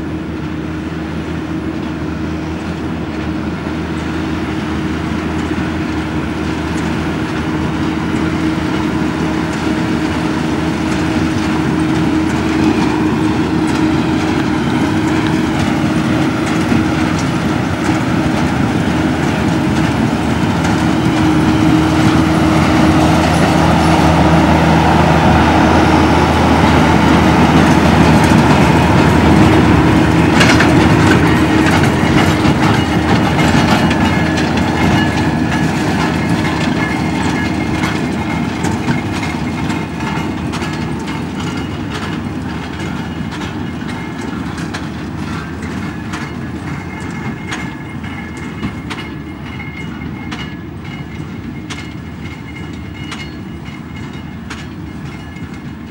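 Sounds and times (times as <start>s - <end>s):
tractor engine drone: 0.0s - 55.9s.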